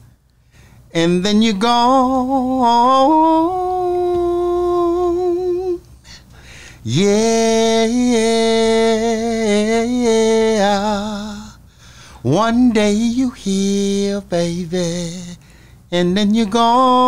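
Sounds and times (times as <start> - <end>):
man singing a cappella: 0.9 - 17.0.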